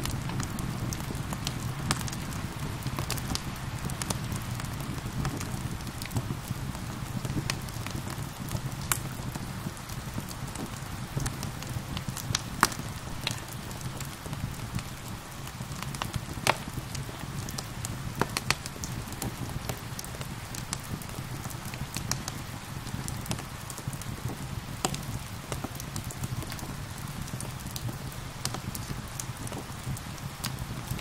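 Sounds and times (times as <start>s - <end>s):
rain hissing: 0.0s - 31.0s
wood fire crackling: 0.0s - 31.0s.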